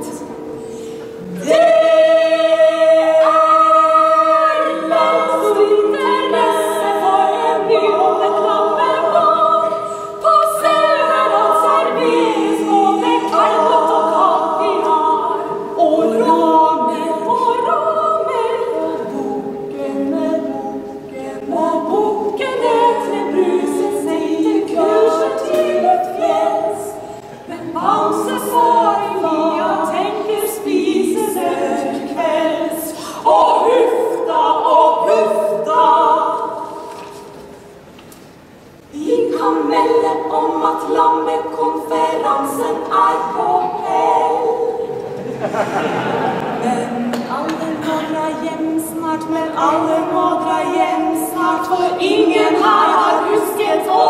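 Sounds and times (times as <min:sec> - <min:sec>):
women singing in harmony: 0:00.0 - 0:37.5, 0:38.8 - 0:54.0.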